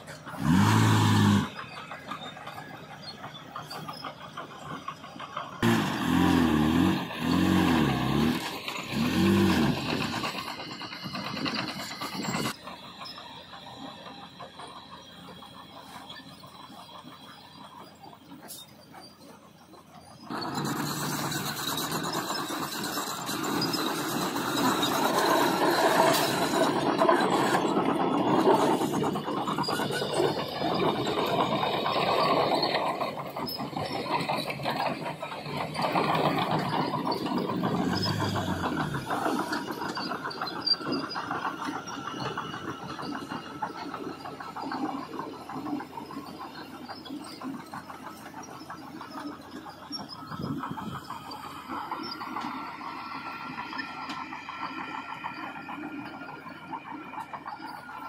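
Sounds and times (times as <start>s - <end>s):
high-pitched squealing tones: 0.0s - 5.0s, 5.6s - 58.0s
heavy machinery working: 0.0s - 58.0s.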